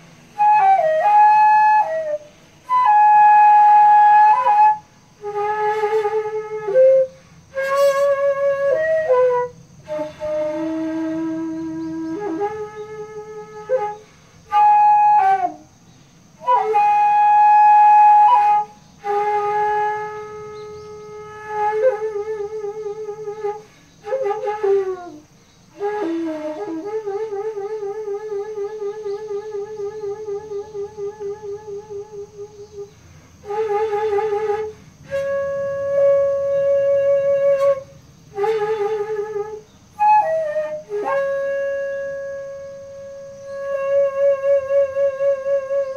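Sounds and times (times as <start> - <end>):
bamboo flute playing solo: 0.0 - 45.9.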